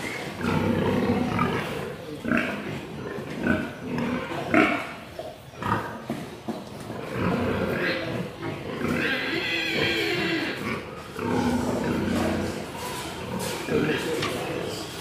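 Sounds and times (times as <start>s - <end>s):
pig grunting: 0.0s - 6.1s, 6.8s - 15.0s.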